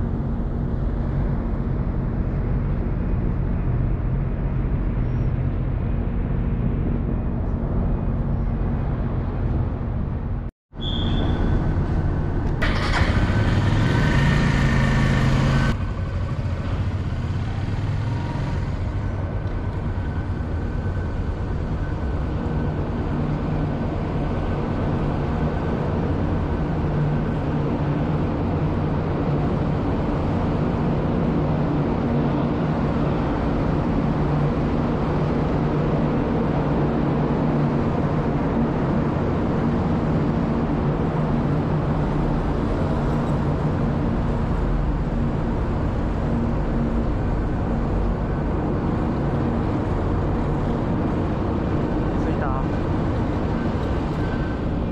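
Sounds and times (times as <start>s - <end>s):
engine droning: 0.0s - 54.9s.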